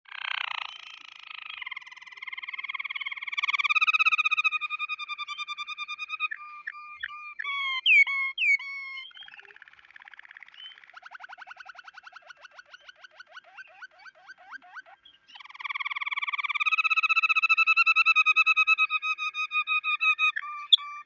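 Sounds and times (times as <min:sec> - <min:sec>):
canary singing trills: 0:00.1 - 0:21.0.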